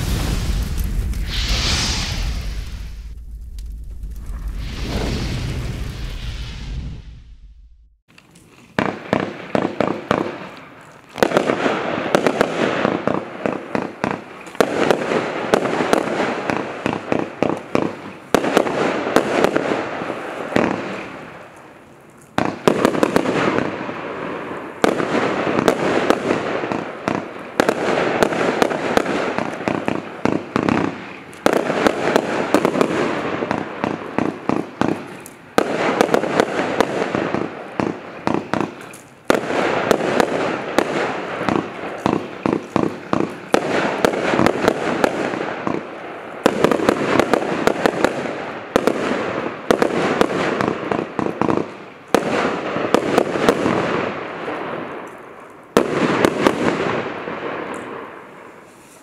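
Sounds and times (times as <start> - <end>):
firework shots and bursting pops: 0.0 - 59.0.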